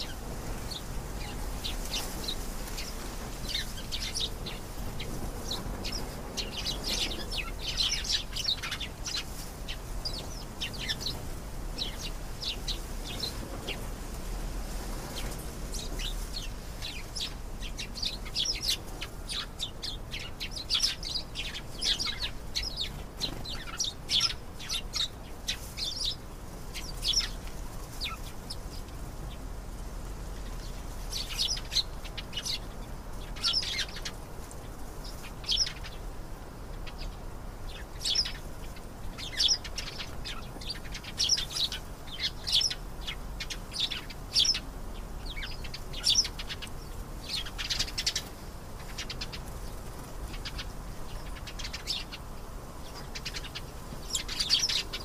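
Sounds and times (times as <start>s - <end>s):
canary chirping and trilling: 0.0s - 11.2s, 15.2s - 26.2s, 26.8s - 28.7s, 31.1s - 34.2s, 35.0s - 36.0s, 36.8s - 44.6s, 45.2s - 52.2s, 52.8s - 55.0s.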